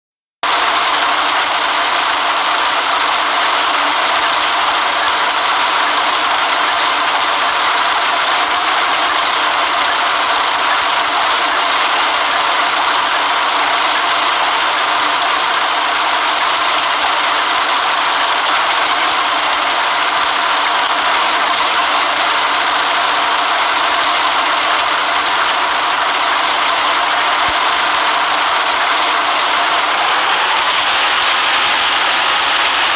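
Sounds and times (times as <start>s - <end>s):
bus engine and road noise: 0.4s - 32.9s.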